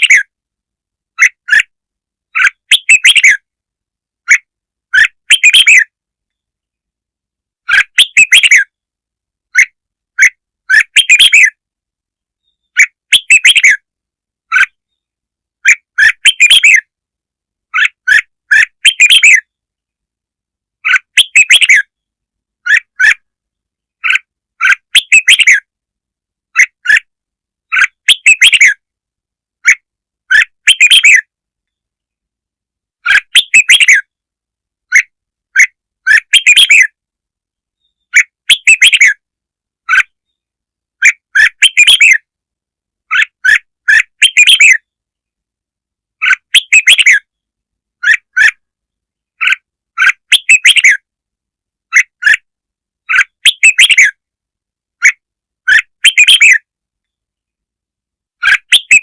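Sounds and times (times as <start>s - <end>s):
bird song chirpy phrases: 0.0s - 0.4s, 1.1s - 3.6s, 4.2s - 6.9s, 7.6s - 17.0s, 17.6s - 19.8s, 20.6s - 25.8s, 26.4s - 28.9s, 29.6s - 32.2s, 33.0s - 34.2s, 34.9s - 37.0s, 37.6s - 42.3s, 43.0s - 45.2s, 46.2s - 51.1s, 51.8s - 52.4s, 53.0s - 54.3s, 55.0s - 57.6s, 58.4s - 59.0s.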